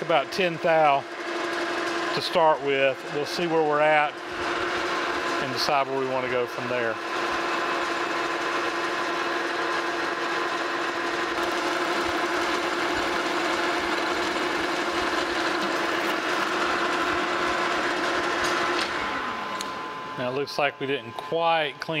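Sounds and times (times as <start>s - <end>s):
metal lathe cutting: 0.0s - 22.0s.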